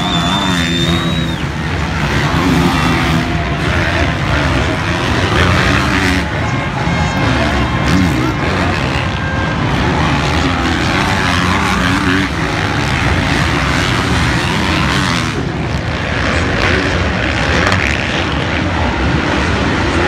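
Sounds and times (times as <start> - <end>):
motocross bike engines revving: 0.0 - 20.0.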